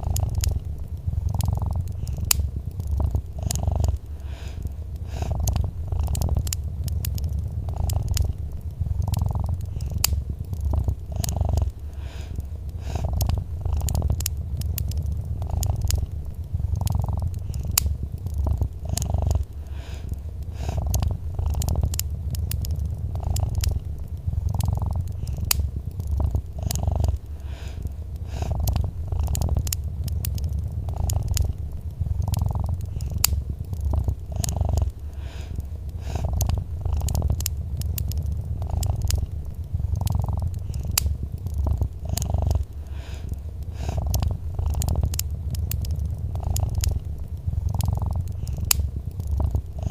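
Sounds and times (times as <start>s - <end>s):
cat purring: 0.0s - 49.9s
wood fire crackling and popping: 0.0s - 49.9s.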